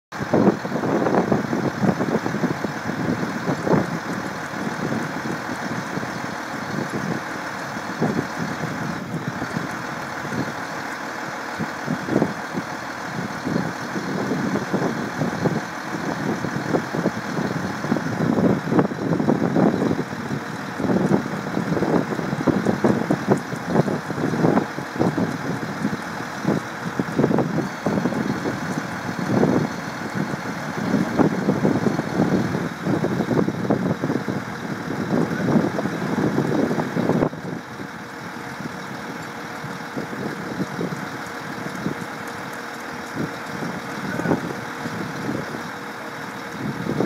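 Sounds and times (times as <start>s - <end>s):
diesel truck engine idling: 0.1s - 47.0s
low gusty rumbles: 0.1s - 47.0s.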